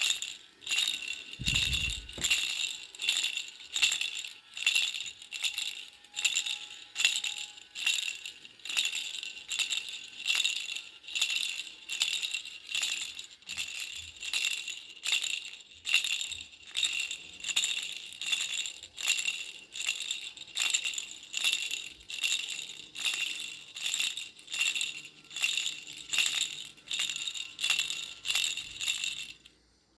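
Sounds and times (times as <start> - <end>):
baby rattle jingling: 0.0 - 29.6.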